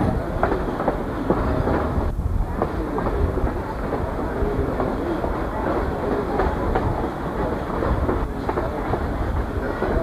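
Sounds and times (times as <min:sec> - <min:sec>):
train car rumbling on track: 0:00.0 - 0:10.0.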